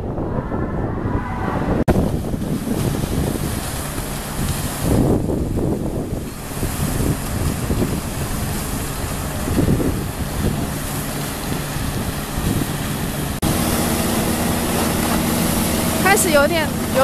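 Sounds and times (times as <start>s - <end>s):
wind buffeting microphone: 0.0s - 17.0s
fountain water splashing: 1.9s - 17.0s.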